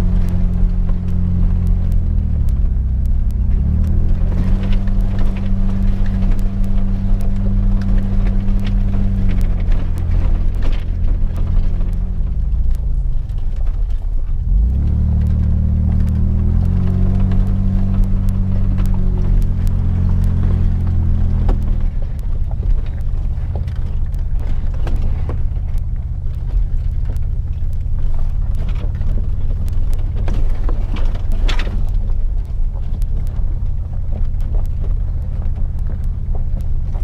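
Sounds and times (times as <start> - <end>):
body and suspension rattles: 0.0 - 37.0
low rumble of engine and tyres: 0.0 - 37.0.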